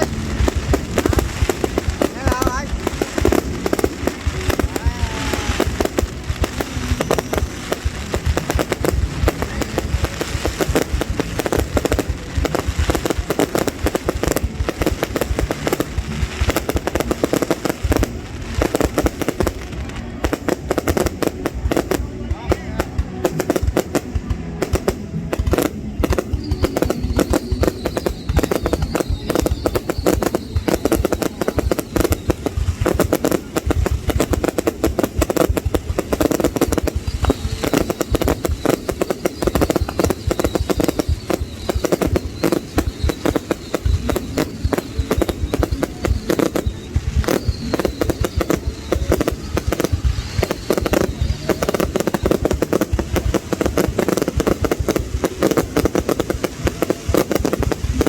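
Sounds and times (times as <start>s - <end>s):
fireworks bangs and crackles: 0.0s - 58.0s
people's voices: 0.0s - 58.0s.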